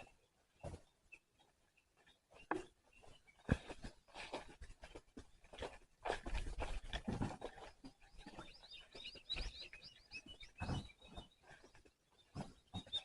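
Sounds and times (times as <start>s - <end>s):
small bird chirping: 0.0s - 5.0s, 7.1s - 13.0s.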